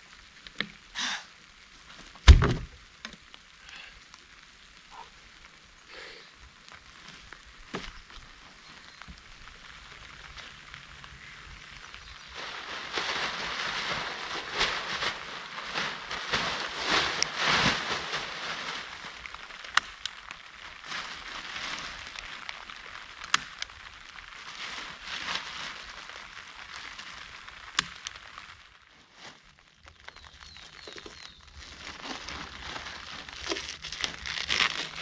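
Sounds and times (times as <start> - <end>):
plastic tarp rustling and crinkling: 0.0 - 35.0.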